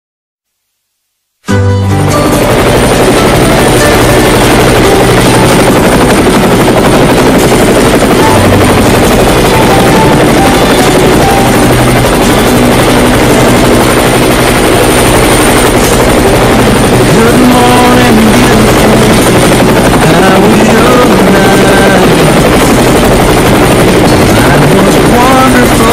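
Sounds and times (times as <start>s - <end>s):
helicopter rotor and turbine: 2.0s - 25.9s.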